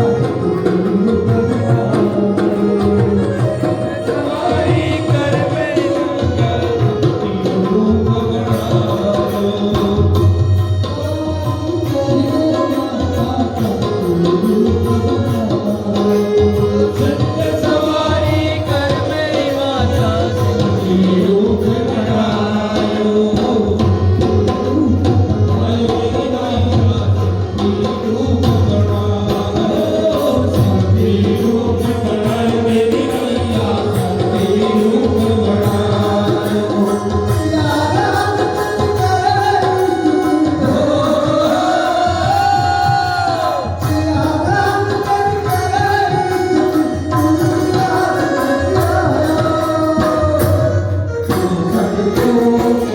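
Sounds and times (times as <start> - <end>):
tabla drumming: 0.0 - 52.9
voices singing devotional song: 0.0 - 52.9.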